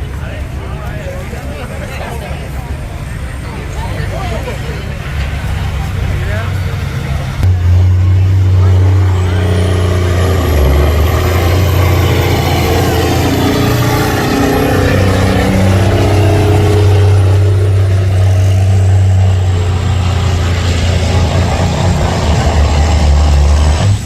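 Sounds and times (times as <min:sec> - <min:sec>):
truck engine droning under load: 0:00.0 - 0:24.0.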